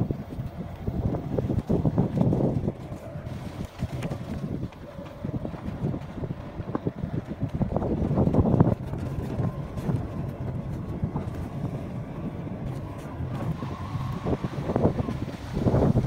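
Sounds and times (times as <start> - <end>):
motorcycle on dirt track: 0.0 - 16.0
wind buffeting microphone: 0.0 - 16.0.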